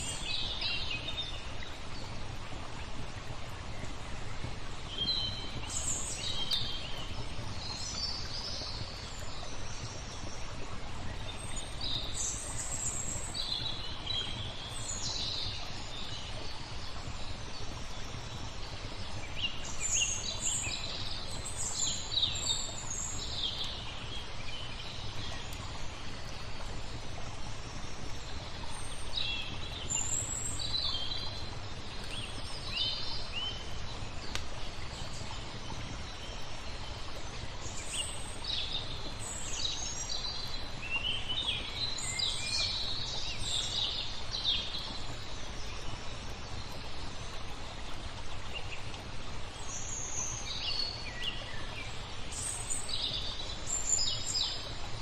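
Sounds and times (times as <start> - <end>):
flowing water hiss: 0.0 - 55.0
songbirds chirping: 0.0 - 55.0.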